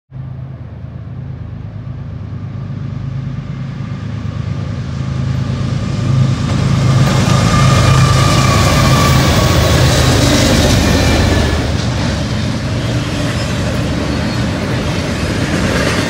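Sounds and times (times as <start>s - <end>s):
diesel locomotive engines droning: 0.1s - 16.0s.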